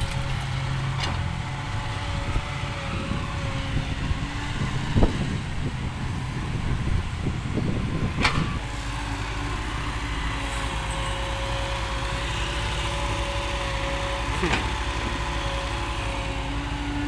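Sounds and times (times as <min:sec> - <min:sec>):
diesel truck engines idling: 0:00.0 - 0:17.0.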